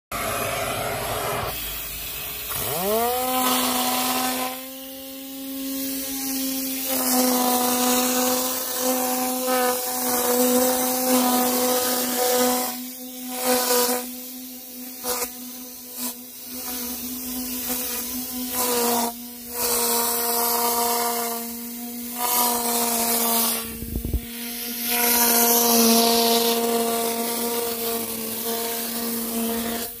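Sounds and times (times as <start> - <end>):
vacuum buzzing tone: 0.1 - 30.0
rushing hiss of air suction: 0.2 - 30.0.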